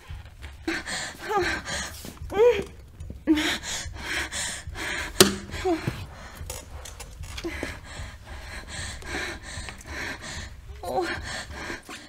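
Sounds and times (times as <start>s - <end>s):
heavy panting breaths: 0.0s - 12.0s.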